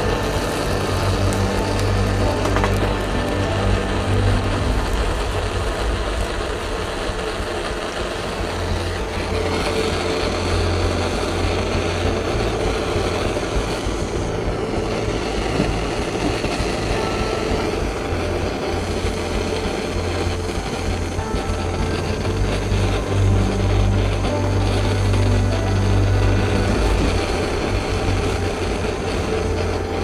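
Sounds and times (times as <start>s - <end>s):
gas torch rushing: 0.0s - 30.0s.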